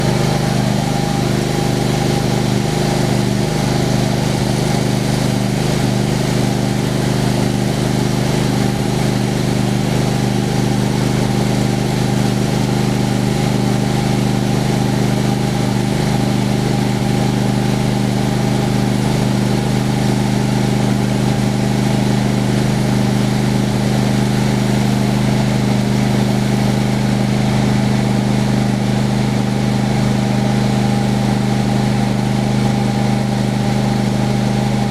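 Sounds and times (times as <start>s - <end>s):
engine droning: 0.0s - 34.9s.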